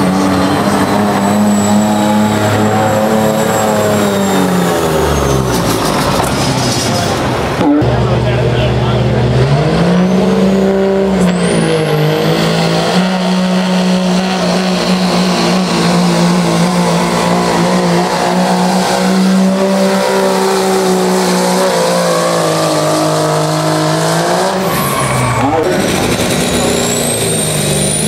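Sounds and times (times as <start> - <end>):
truck engine at high revs: 0.0 - 28.0.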